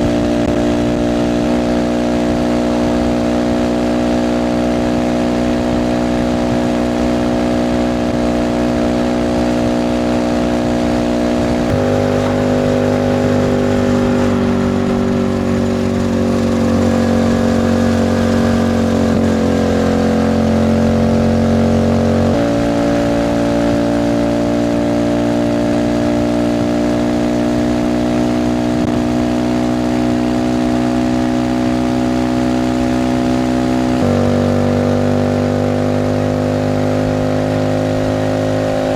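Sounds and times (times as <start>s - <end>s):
moped engine running: 0.0s - 38.9s.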